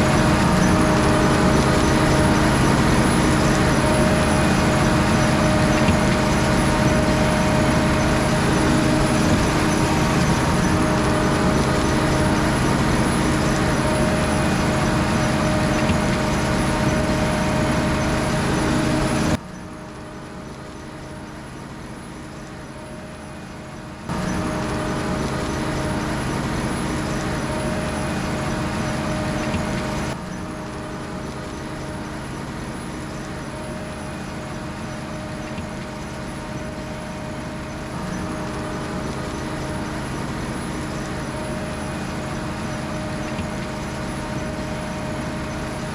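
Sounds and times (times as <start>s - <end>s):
harvesting machinery running: 0.0s - 45.9s.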